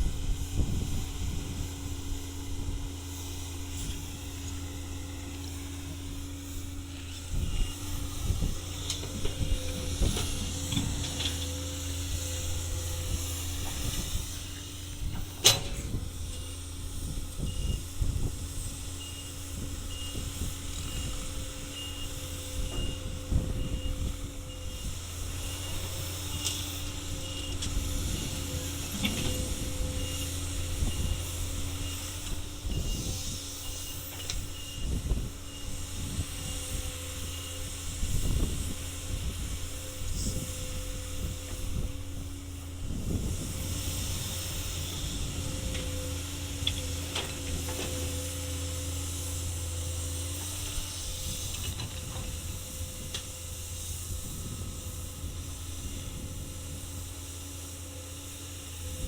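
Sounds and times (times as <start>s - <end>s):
excavator engine hum: 0.0s - 59.0s.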